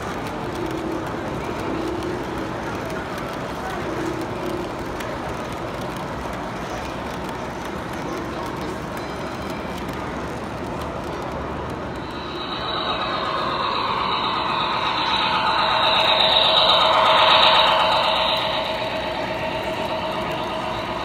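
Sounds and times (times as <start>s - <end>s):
crowd chatter: 0.0s - 21.0s
model train running: 0.0s - 21.0s.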